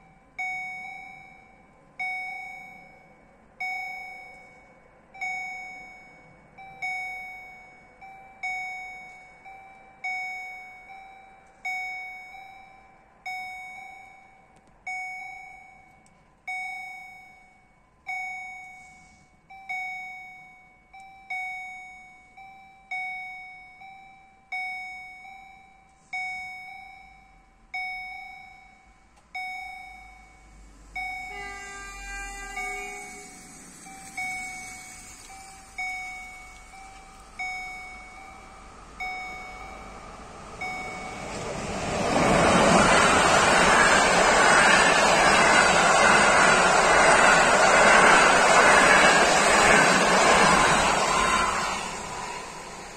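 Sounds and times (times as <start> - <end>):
level crossing warning bell: 0.0 - 52.9.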